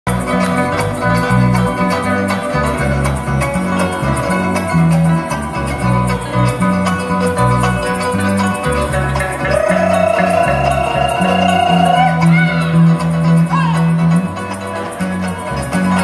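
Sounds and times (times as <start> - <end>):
electric bass line: 0.1 - 16.0
harp: 0.1 - 16.0
strummed cuatro: 0.1 - 16.0
shaker beat: 2.6 - 16.0.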